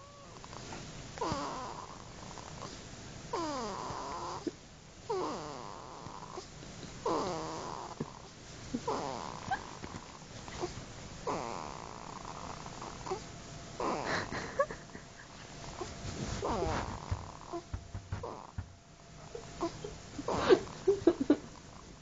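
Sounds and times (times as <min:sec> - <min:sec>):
baby snoring: 0:00.0 - 0:14.6, 0:15.7 - 0:18.6, 0:19.3 - 0:21.0.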